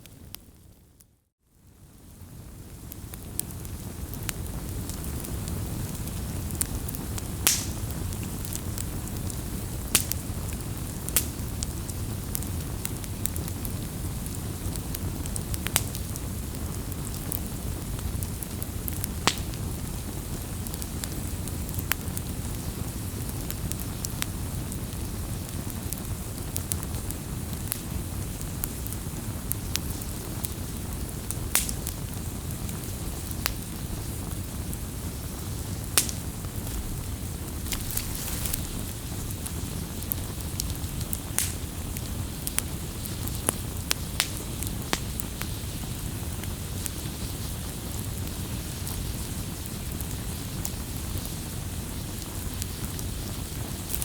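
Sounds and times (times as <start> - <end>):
wood fire crackling: 1.7 - 54.0.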